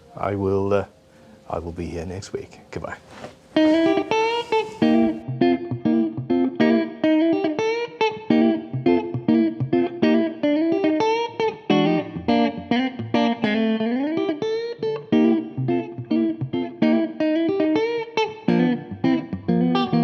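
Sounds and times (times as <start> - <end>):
electric guitar picked notes: 3.6 - 20.0.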